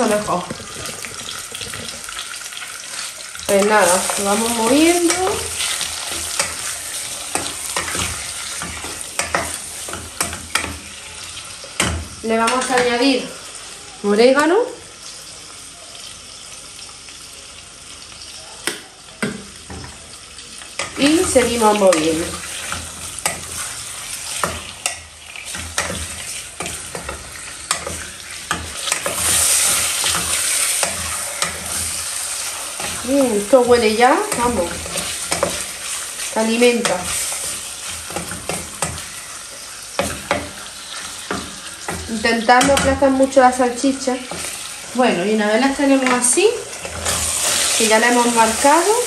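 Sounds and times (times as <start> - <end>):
sausages sizzling in oil: 0.0 - 49.0.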